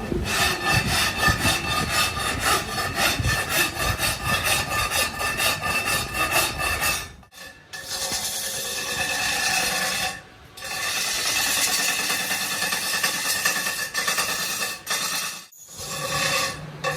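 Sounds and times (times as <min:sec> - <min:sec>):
metal wheel rim rasping: 0:00.0 - 0:16.9.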